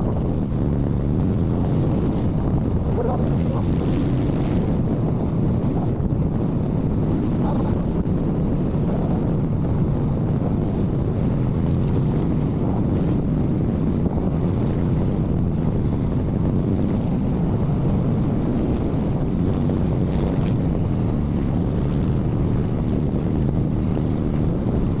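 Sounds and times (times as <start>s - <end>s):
motorcycle running: 0.0s - 25.0s
wind rush on microphone: 0.0s - 25.0s.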